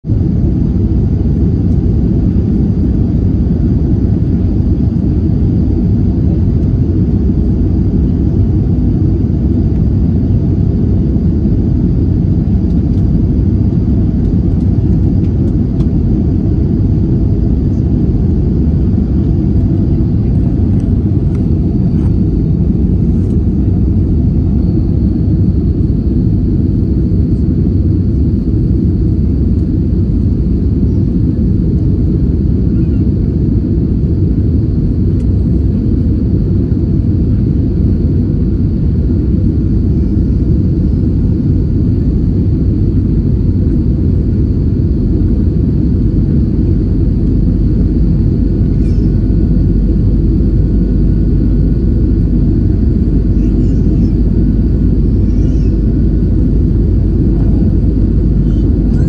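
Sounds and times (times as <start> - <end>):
airliner low rumble: 0.0 - 59.0
faint high whine: 0.1 - 59.0.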